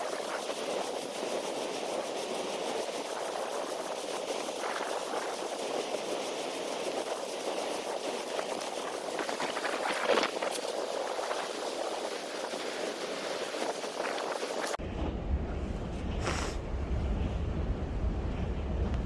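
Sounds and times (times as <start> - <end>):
strong gale blowing: 0.0 - 19.0
wind buffeting microphone: 0.0 - 19.0.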